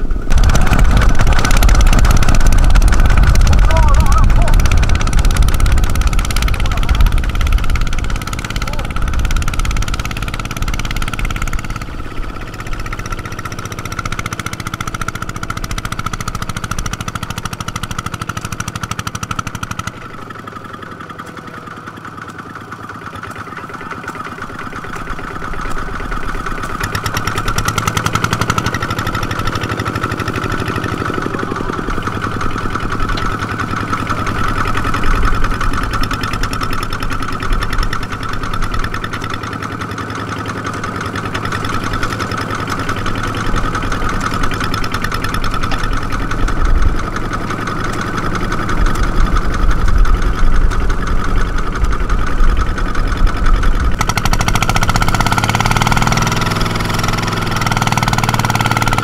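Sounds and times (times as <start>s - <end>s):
diesel engine whining: 0.0s - 59.0s.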